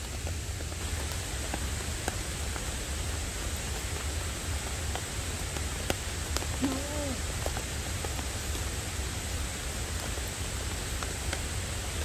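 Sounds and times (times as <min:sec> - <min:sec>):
heavy rain on a tarp: 0:00.0 - 0:12.0.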